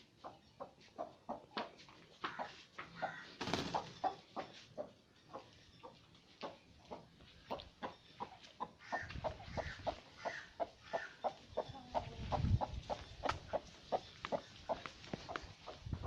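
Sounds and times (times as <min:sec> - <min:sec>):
chicken clucking: 0:00.0 - 0:16.0.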